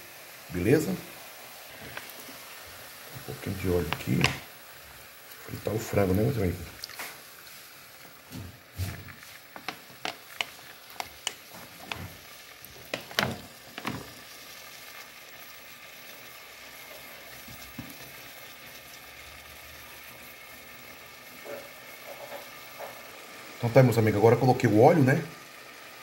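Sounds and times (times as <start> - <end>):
chicken frying in oil: 0.0 - 26.0
oil popping and crackling: 0.3 - 26.0.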